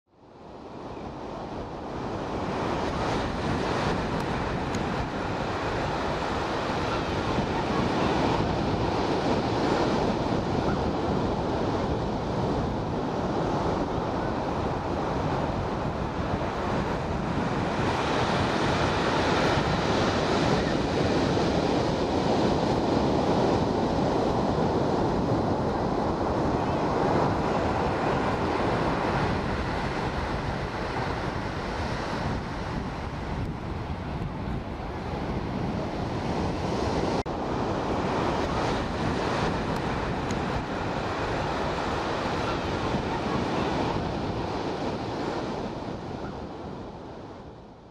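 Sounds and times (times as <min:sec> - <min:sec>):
steady wind: 0:00.1 - 0:47.9
wind buffeting microphone: 0:00.4 - 0:47.9
ocean surf breaking: 0:00.6 - 0:47.6.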